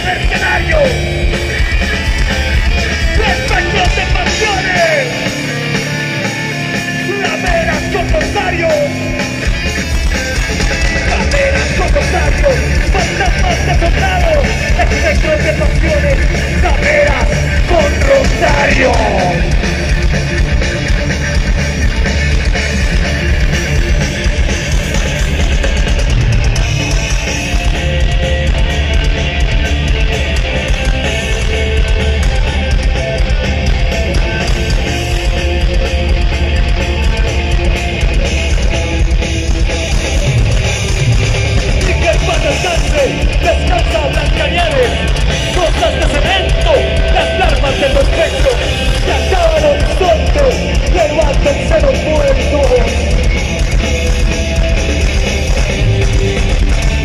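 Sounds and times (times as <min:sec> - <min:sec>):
punk rock band playing live: 0:00.0 - 0:57.0
guitar bent sliding notes: 0:00.1 - 0:57.0.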